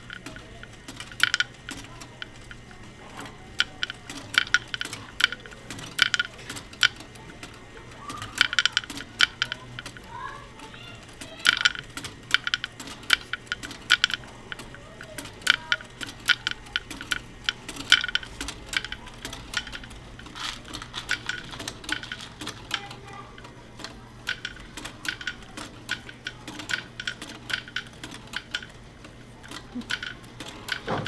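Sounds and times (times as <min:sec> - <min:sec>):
plastic bricks clicking: 0:00.0 - 0:07.1, 0:08.0 - 0:10.0, 0:10.7 - 0:28.8, 0:29.4 - 0:31.0.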